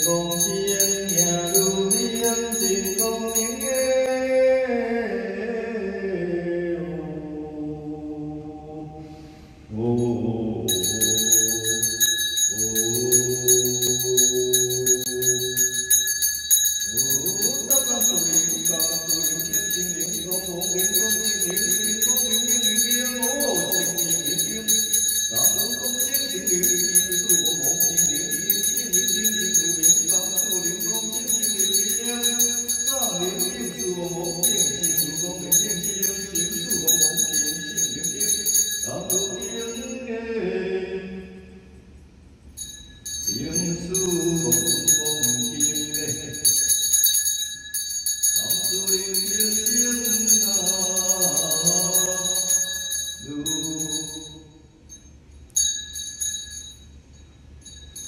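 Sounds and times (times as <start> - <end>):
hand bell ringing: 0.0 - 4.4, 10.0 - 40.1, 42.6 - 58.0
man chanting: 0.0 - 15.8, 16.9 - 41.7, 43.2 - 46.6, 48.4 - 54.6.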